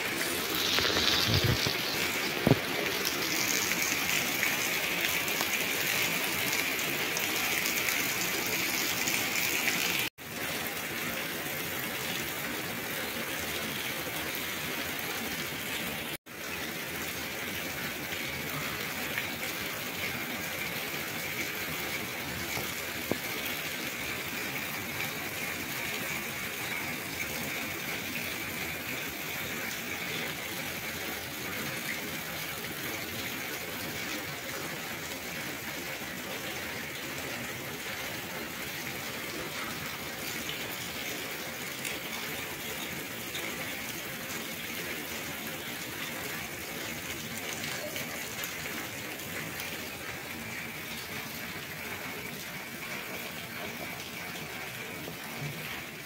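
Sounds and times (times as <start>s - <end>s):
heavy rain: 0.0s - 56.0s
running water: 0.0s - 56.0s.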